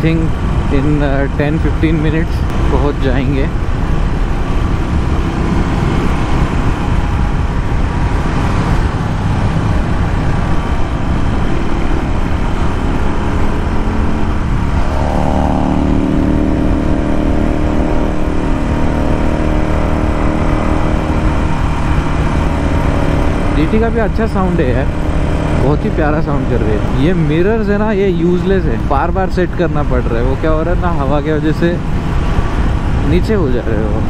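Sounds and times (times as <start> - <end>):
motorcycle engine running: 0.0 - 29.5
wind noise on microphone: 0.0 - 34.0.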